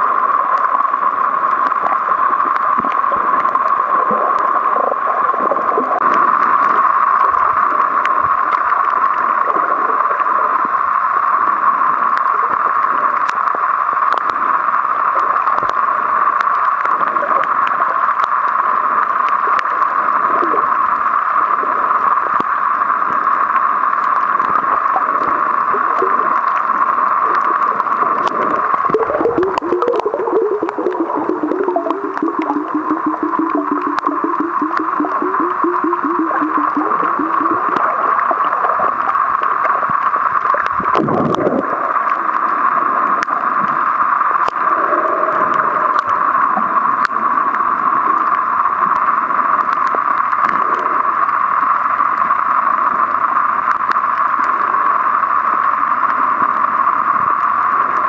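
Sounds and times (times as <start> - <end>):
faint underwater clicks: 0.0 - 58.0
muffled underwater hiss: 0.0 - 58.0.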